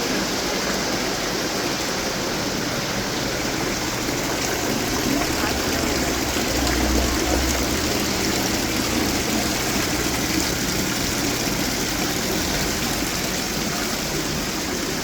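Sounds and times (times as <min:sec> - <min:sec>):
fountains splashing: 0:00.0 - 0:15.0.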